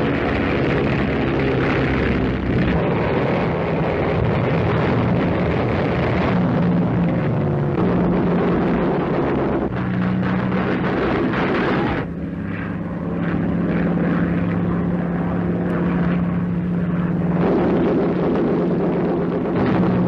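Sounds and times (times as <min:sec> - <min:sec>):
biplane engine droning: 0:00.0 - 0:20.0
dense rough noise: 0:00.0 - 0:20.0.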